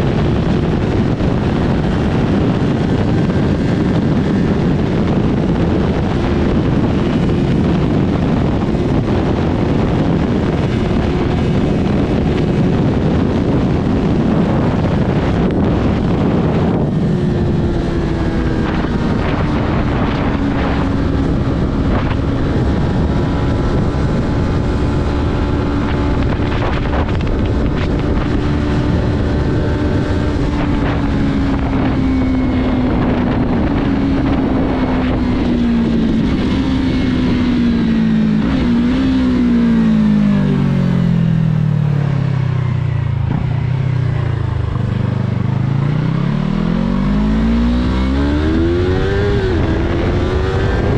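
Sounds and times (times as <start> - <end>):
motorcycle engine revving: 0.0 - 50.9
wind rush: 0.0 - 50.9.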